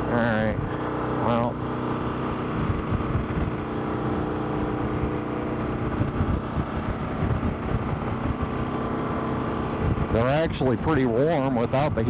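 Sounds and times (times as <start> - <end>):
motorcycle engine cruising: 0.0 - 12.0
wind rumble on microphone: 2.2 - 12.0.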